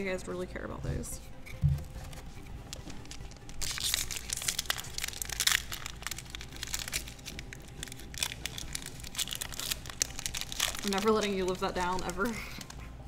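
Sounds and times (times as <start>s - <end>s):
plastic wrapper crinkling: 1.6s - 13.0s.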